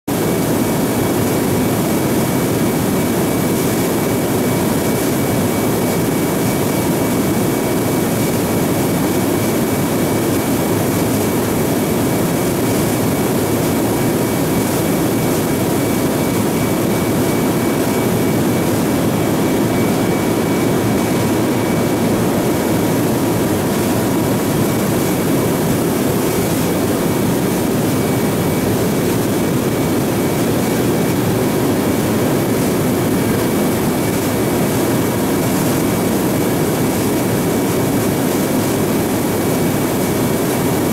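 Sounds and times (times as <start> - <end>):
airplane engine drone: 0.1 - 40.9
faint steady whine: 0.1 - 40.9.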